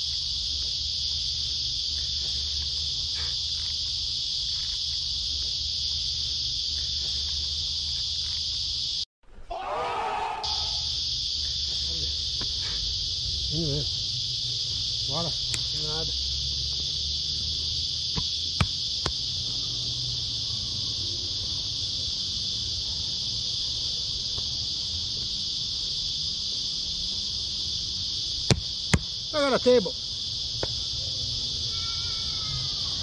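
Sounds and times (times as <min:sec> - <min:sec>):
insect chorus droning: 0:00.0 - 0:33.0.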